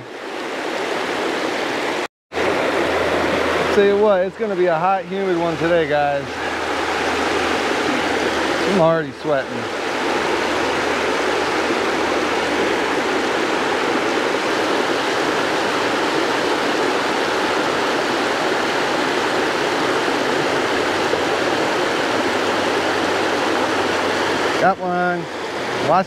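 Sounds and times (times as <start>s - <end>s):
water rushing over spillway: 0.0s - 26.0s.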